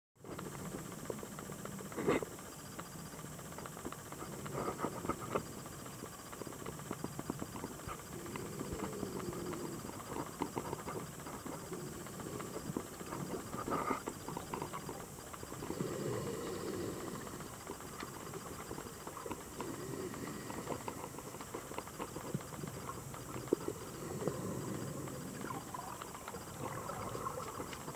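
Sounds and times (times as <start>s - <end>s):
faint high whine: 0.2s - 27.9s.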